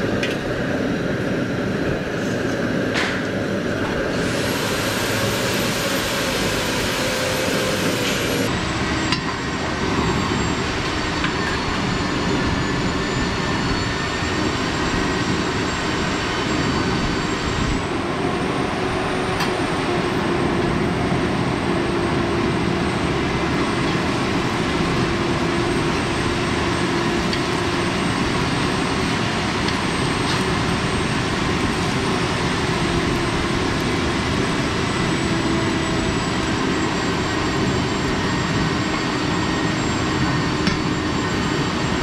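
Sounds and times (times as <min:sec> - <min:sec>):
loud background roar: 0:00.0 - 0:42.0.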